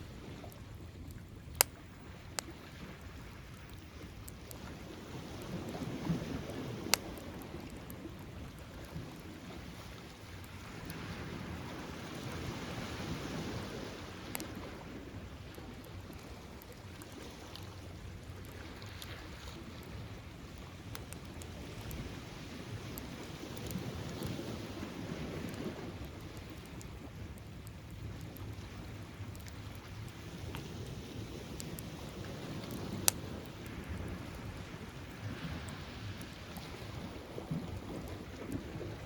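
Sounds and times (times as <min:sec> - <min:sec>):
bonfire crackling and popping: 0:00.0 - 0:39.0
surf washing: 0:00.0 - 0:39.0.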